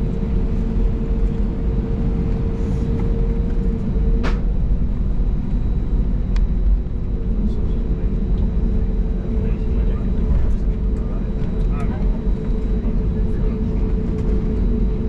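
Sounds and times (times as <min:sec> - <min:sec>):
aircraft engines rumbling at idle: 0:00.0 - 0:15.0.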